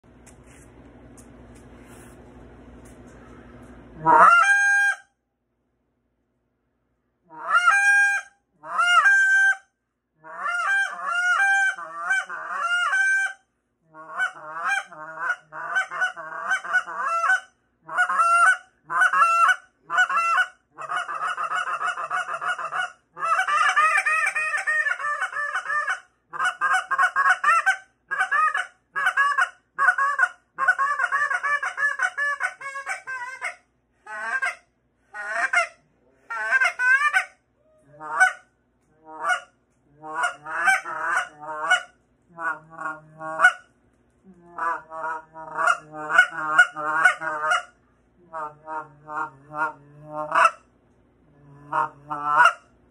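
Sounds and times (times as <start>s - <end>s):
goose call honks and clucks: 4.0s - 5.1s, 7.3s - 43.7s, 44.4s - 50.7s, 51.3s - 52.7s.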